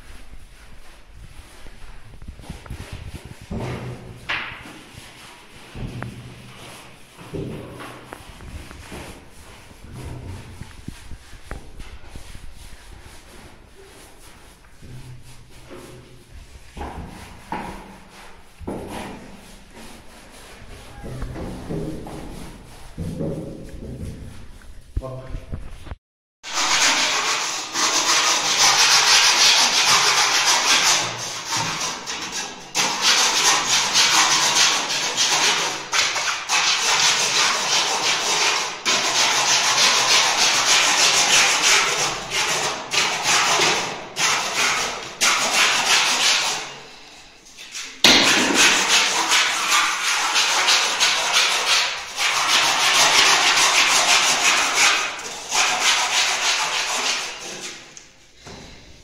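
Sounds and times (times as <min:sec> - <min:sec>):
scraper rasping on plaster wall: 0:00.0 - 0:24.8, 0:26.4 - 0:58.4.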